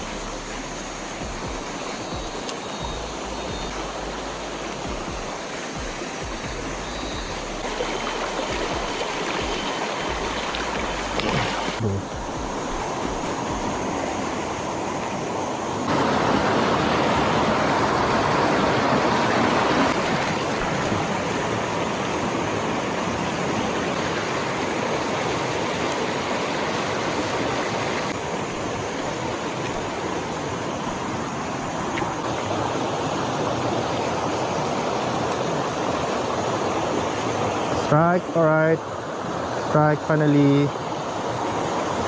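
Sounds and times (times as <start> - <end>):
creek water rushing over rocks: 0.0 - 42.0.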